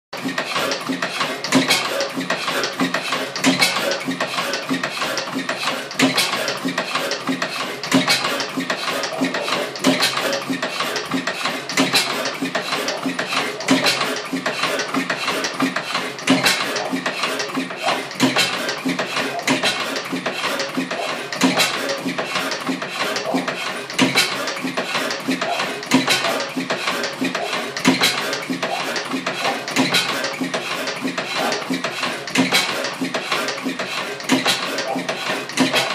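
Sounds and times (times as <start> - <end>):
oil engine clattering: 0.2 - 35.9.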